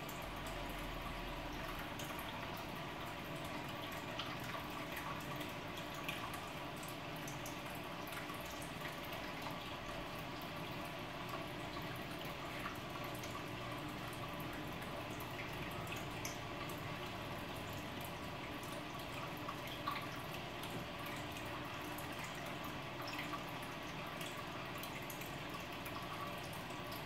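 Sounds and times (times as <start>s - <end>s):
aquarium water bubbling: 0.0s - 27.0s
faint steady hum: 0.0s - 27.0s.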